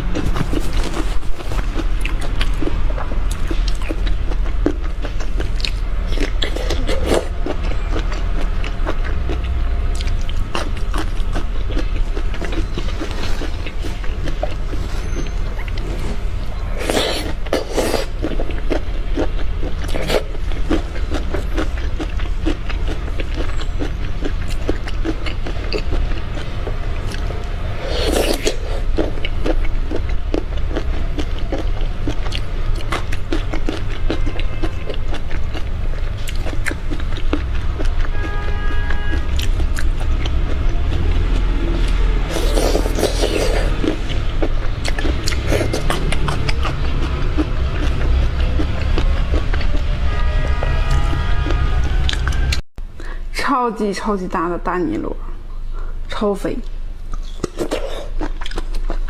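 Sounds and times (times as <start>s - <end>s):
wet chewing and mouth clicks: 0.0s - 49.9s, 56.6s - 59.0s.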